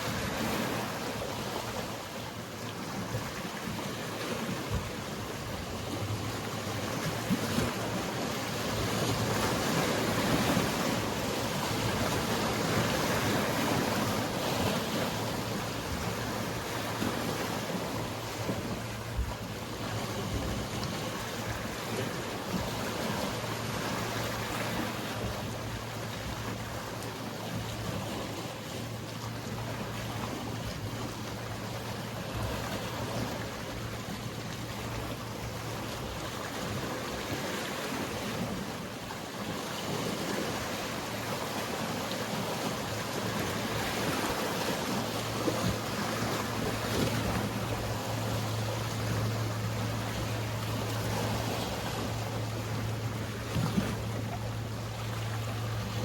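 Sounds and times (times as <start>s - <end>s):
boat engine hum: 0.0s - 56.0s
waves washing against shore: 0.0s - 56.0s.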